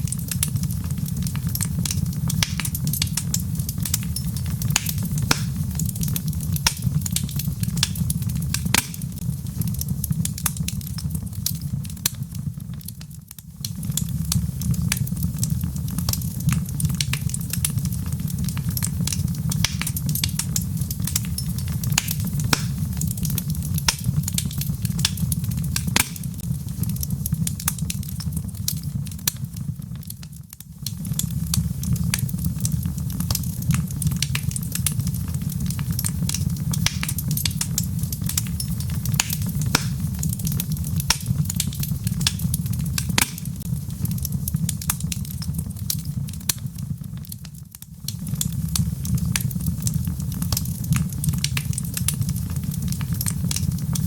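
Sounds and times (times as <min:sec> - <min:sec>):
log fire crackling and popping: 0:00.0 - 0:54.0.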